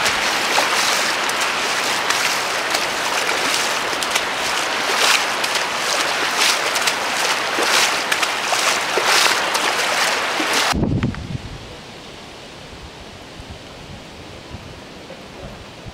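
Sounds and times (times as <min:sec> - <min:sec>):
rain hissing on water: 0:00.0 - 0:15.8
low rush of water: 0:00.0 - 0:15.9.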